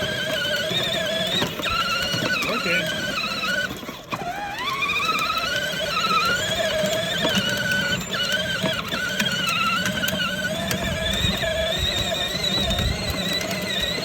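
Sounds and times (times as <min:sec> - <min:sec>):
truck mechanical whine: 0:00.0 - 0:14.0.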